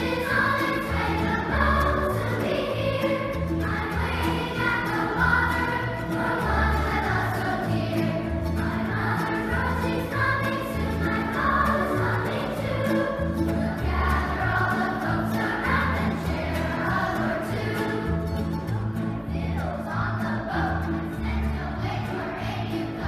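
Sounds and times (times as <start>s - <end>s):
bluegrass band playing: 0.0s - 23.0s
children's choir singing: 0.0s - 23.0s
upright bass plucking: 0.0s - 23.0s.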